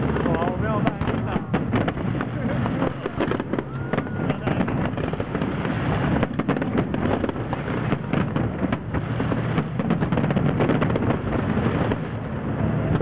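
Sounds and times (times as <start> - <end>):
fireworks bursts and crackles: 0.0 - 13.0.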